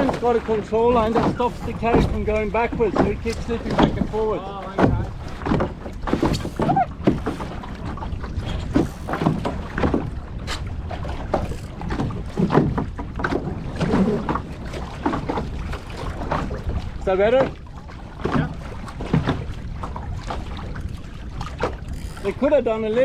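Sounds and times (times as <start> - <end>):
water slapping against boat hull: 0.0 - 23.0
wind rumbling on microphone: 0.0 - 23.0.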